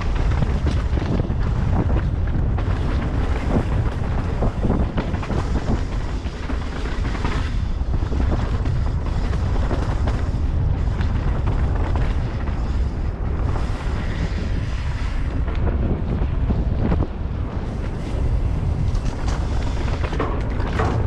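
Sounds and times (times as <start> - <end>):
bike rattling clicks: 0.0 - 21.0
wind buffeting microphone: 0.0 - 21.0.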